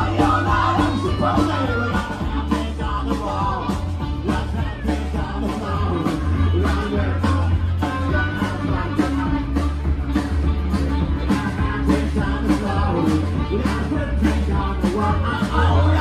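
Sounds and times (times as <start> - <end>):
drum beat: 0.0 - 16.0
live pop-rock band: 0.0 - 16.0.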